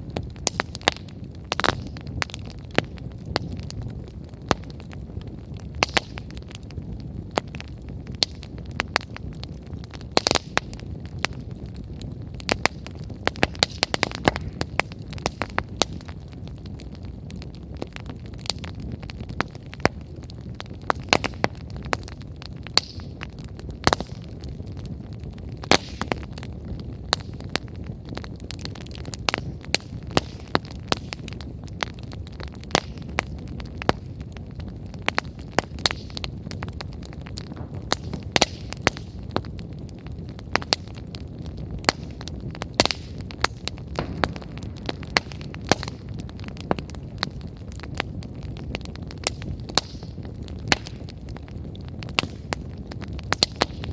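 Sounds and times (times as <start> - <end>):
firewood crackling and popping: 0.0 - 53.9
low rush of flames: 0.0 - 53.9.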